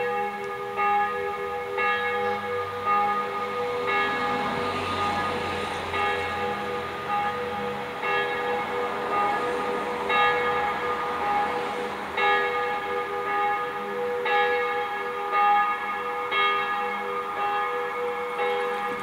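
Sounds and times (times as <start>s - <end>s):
bells ringing: 0.0s - 19.0s.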